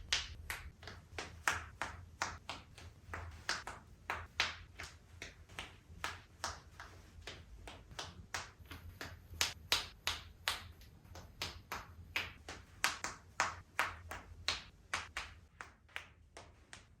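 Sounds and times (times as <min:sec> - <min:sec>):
sharp clapping smacks: 0:00.0 - 0:17.0.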